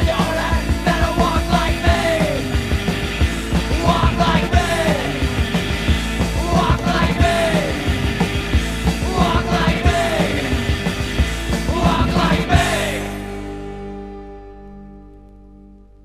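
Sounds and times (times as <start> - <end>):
punk rock song: 0.0 - 14.4.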